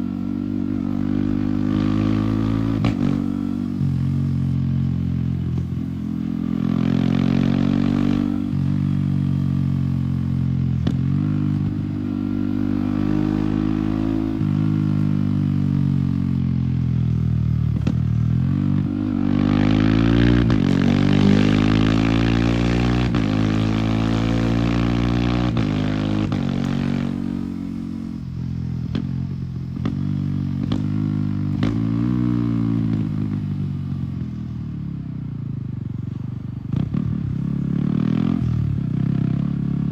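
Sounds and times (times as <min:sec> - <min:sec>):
motorcycle engine revving: 0:00.0 - 0:35.0, 0:36.6 - 0:39.9.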